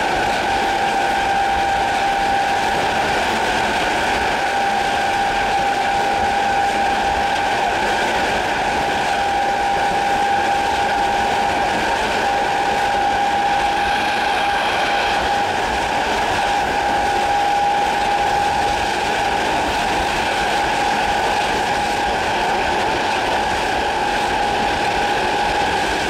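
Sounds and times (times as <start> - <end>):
train traction motors whining: 0.0 - 26.0
wheels rumbling on rails: 0.0 - 26.0.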